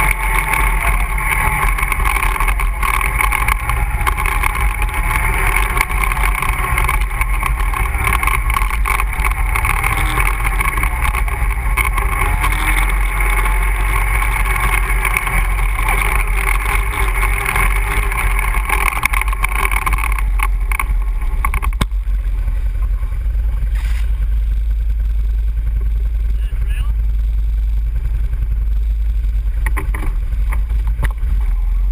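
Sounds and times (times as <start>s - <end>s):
atv engine rumbling: 0.0s - 31.9s
mechanical engine drone: 0.0s - 31.9s.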